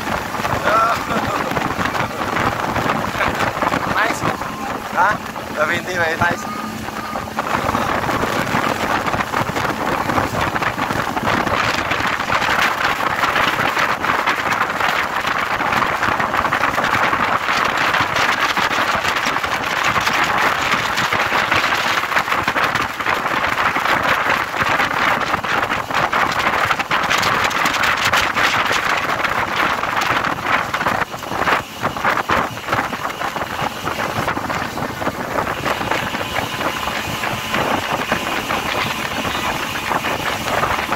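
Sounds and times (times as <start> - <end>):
motorboat noise: 0.0 - 40.9
wind buffeting microphone: 0.0 - 40.9.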